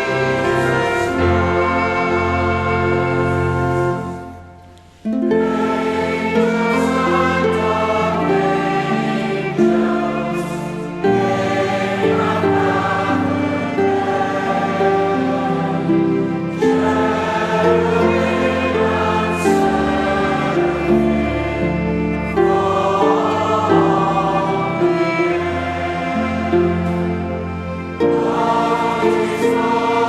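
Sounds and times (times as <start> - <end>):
choir singing: 0.0 - 30.0
instrumental accompaniment: 0.0 - 30.0.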